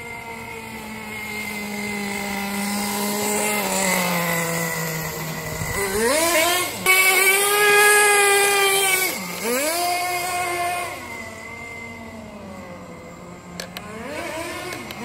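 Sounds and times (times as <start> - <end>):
rc car motor whining: 0.0 - 15.0.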